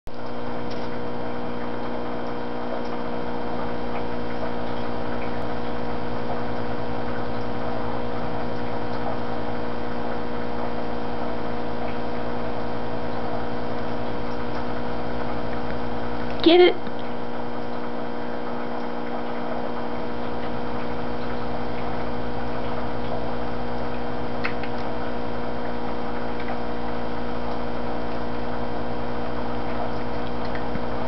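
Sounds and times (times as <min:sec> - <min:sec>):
computer electrical hum: 0:00.1 - 0:31.0.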